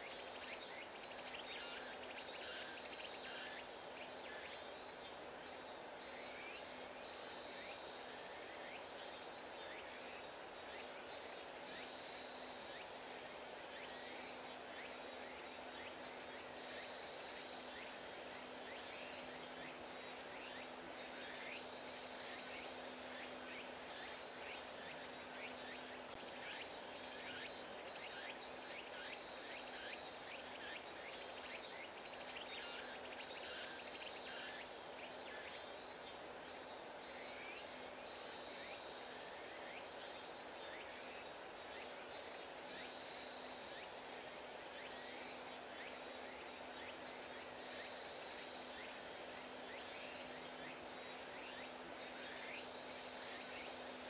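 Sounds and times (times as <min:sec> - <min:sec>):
insects chirping in trills: 0:00.0 - 0:54.0.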